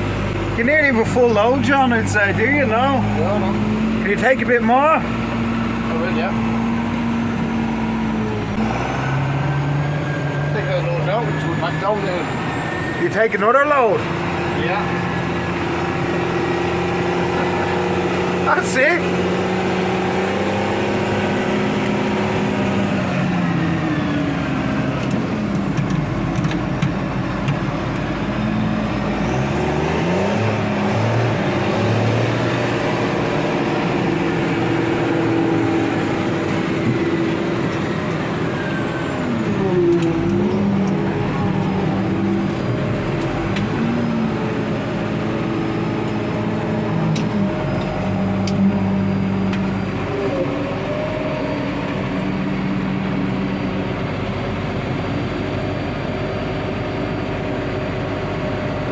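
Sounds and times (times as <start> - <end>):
tractor engine under load: 0.0 - 58.9.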